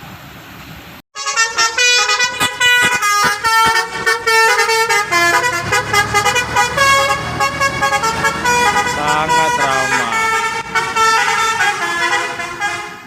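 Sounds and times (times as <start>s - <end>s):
musical air horns playing a tune: 1.2s - 13.0s.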